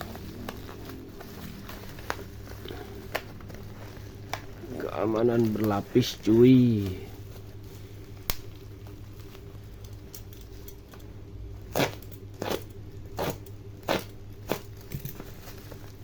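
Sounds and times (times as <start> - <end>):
packaging crinkling: 0.0 - 10.7, 13.1 - 16.0
steady low hum: 0.0 - 16.0.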